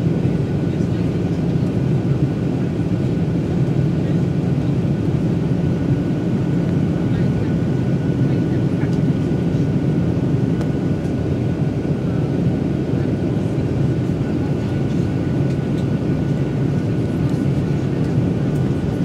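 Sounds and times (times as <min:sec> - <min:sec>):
airliner engine low rush: 0:00.0 - 0:19.0.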